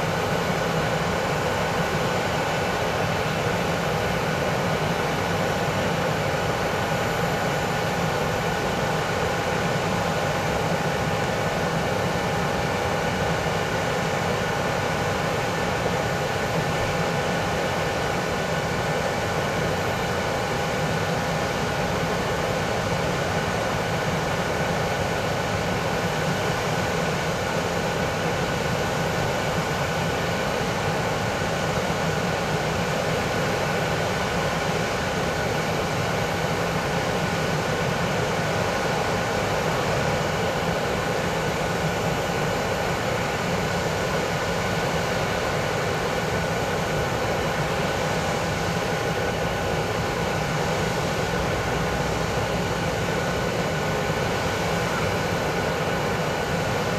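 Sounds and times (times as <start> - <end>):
jet engine whine: 0.0 - 56.9.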